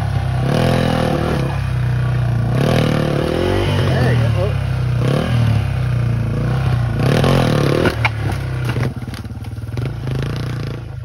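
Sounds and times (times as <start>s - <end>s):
motorcycle engine revving: 0.0s - 11.0s
tire scrabbling on wood and dirt: 0.0s - 11.0s.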